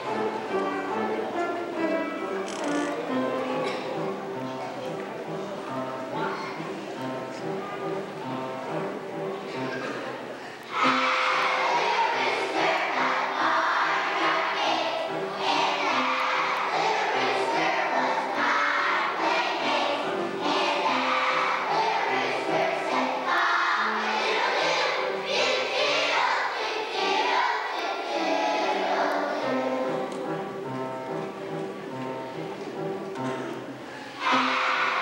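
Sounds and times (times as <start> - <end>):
children's choir singing: 0.0 - 35.0.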